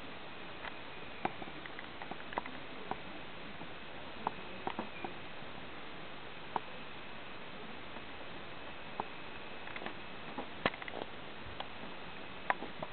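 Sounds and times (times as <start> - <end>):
steady hiss: 0.0 - 12.9.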